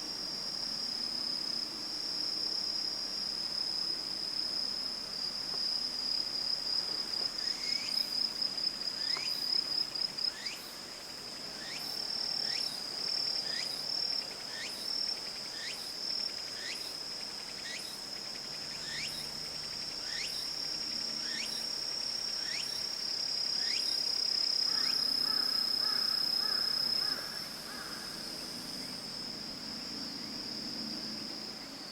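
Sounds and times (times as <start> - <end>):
high-pitched insect trill: 0.1 - 31.9.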